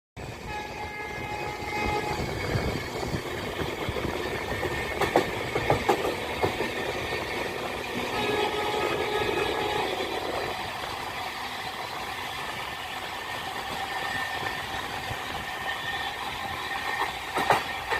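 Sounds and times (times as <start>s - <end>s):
train rumbling on rails: 0.2s - 17.9s
wheels clacking over rail joints: 1.6s - 17.9s.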